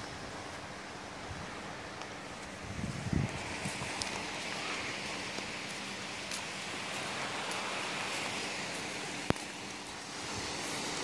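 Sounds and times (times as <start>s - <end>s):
distant surf: 0.0s - 11.0s
wind hissing: 0.0s - 11.0s.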